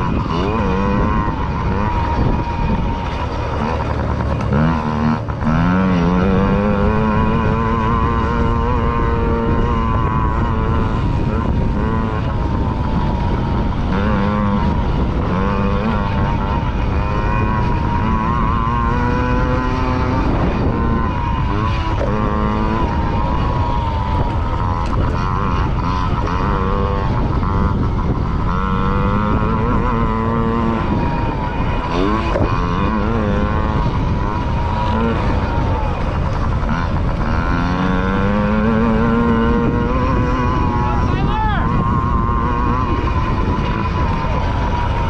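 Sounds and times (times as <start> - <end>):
two-stroke motorbike revving: 0.0 - 45.0.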